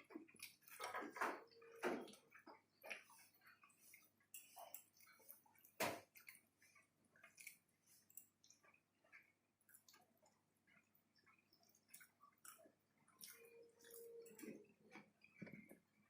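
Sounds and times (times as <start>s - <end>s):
chewing clicks and smacks: 0.0s - 16.0s.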